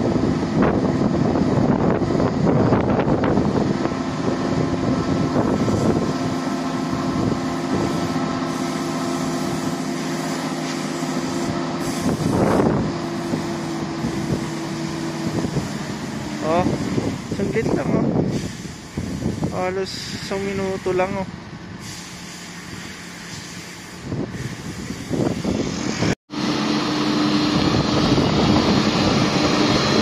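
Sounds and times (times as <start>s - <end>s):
auger unloading grain: 0.0s - 30.0s
combine harvester engine running: 0.0s - 30.0s.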